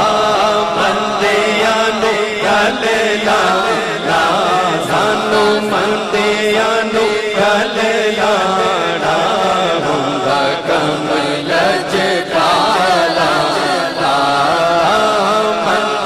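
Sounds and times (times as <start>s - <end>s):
man chanting through a microphone: 0.0s - 16.0s.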